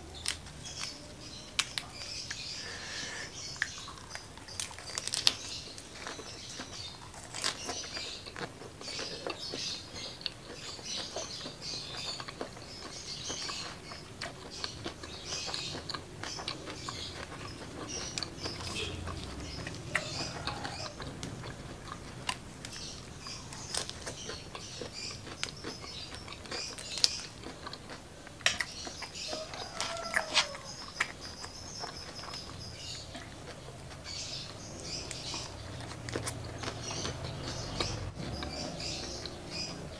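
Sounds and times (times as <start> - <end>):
chewing crisp lettuce: 0.0 - 39.9.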